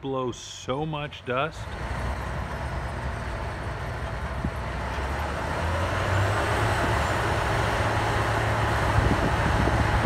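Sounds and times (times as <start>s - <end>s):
combine harvester engine drone: 0.0s - 10.0s
rushing noise of blowing dust: 1.6s - 10.0s.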